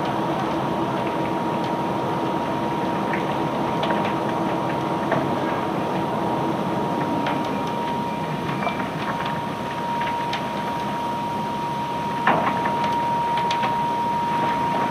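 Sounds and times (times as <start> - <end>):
constant whine: 0.0 - 14.9.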